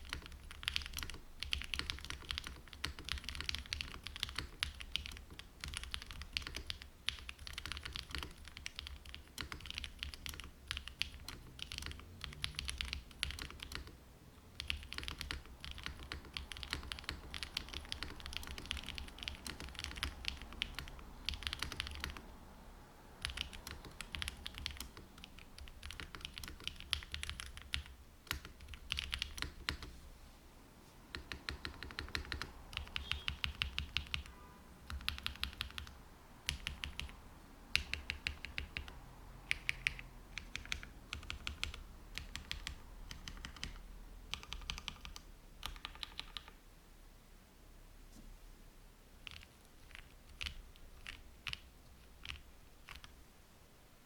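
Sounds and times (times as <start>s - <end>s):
mechanical keyboard typing: 0.0s - 14.0s, 14.6s - 22.4s, 23.2s - 29.9s, 31.1s - 34.3s, 34.9s - 46.6s, 49.2s - 53.2s.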